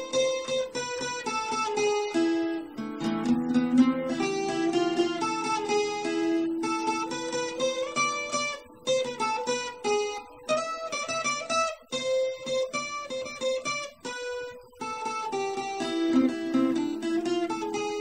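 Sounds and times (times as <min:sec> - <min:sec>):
plucked acoustic string melody: 0:00.0 - 0:18.0.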